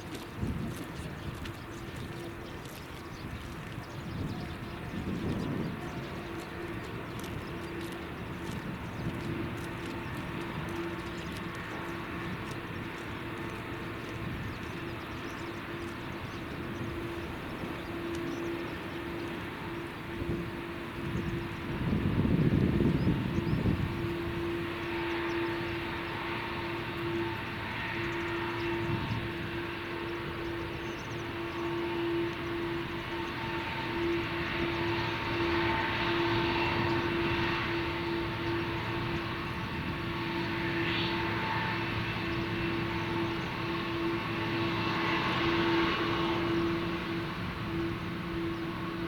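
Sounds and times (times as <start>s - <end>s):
jet engines whining: 0.0s - 49.0s.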